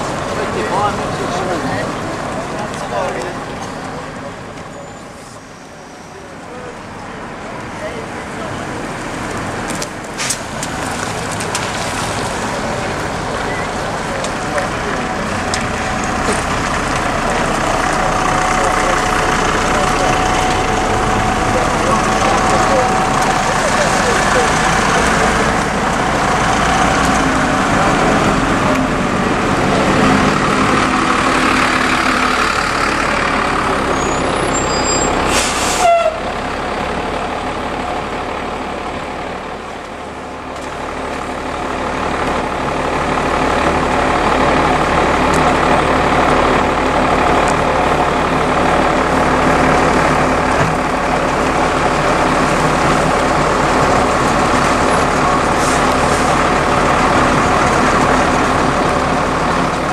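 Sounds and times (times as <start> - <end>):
bus diesel engines driving past: 0.0 - 59.9.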